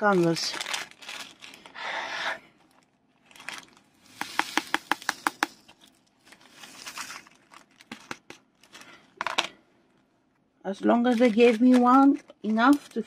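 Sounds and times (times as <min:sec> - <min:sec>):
plastic bag crinkling: 0:00.0 - 0:09.3, 0:10.8 - 0:13.0.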